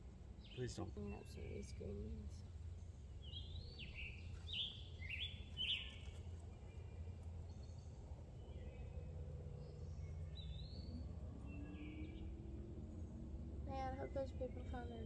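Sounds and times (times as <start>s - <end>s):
low outdoor rumble: 0.0s - 15.0s
songbird singing: 0.0s - 15.0s.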